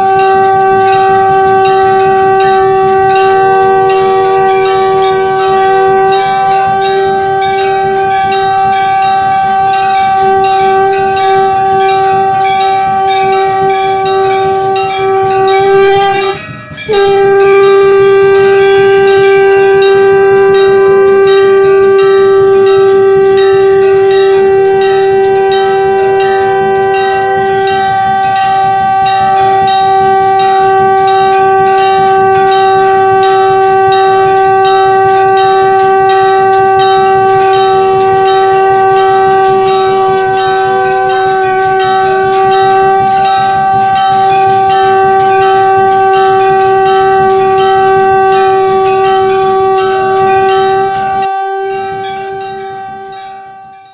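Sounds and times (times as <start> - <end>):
conch shell blown: 0.0 - 53.9
temple bells struck: 0.0 - 53.9.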